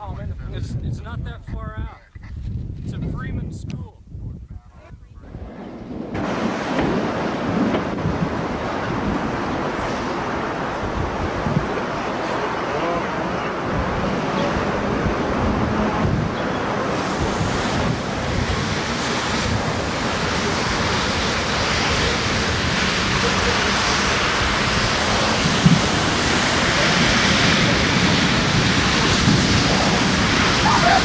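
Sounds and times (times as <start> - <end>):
wind on microphone: 0.0 - 31.0.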